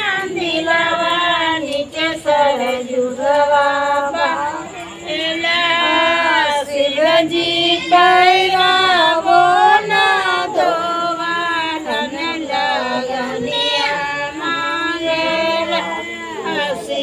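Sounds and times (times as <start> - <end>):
women singing unaccompanied: 0.0 - 17.0.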